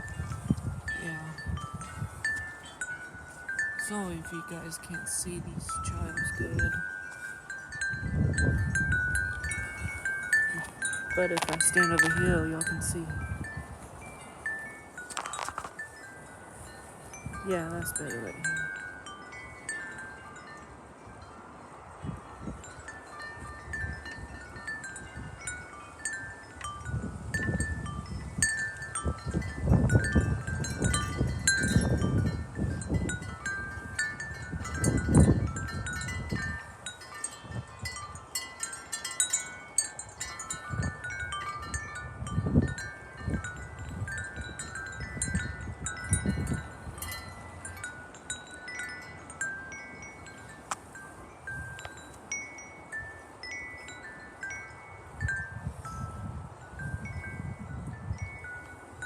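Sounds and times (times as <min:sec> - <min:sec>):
wind chimes ringing: 0:00.0 - 0:59.0
wind gusting on microphone: 0:00.0 - 0:59.0.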